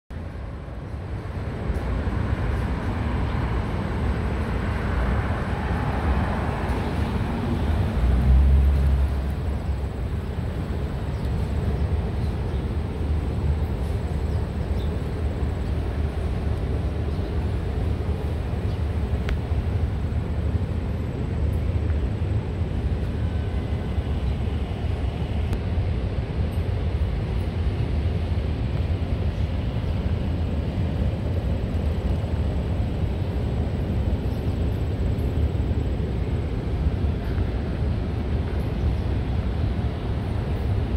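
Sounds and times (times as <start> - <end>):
steady low rumble: 0.1 - 40.9.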